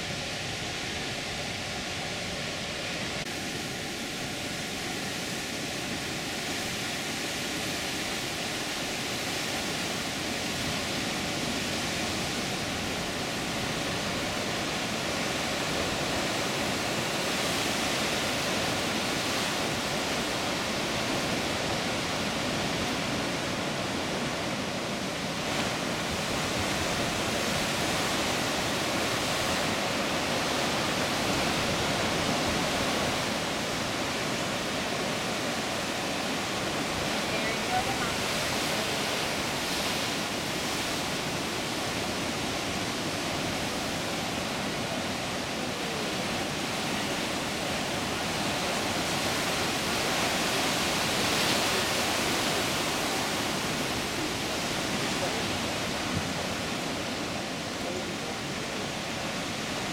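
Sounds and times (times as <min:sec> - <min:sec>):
ocean surf over rocks: 0:00.0 - 0:59.9.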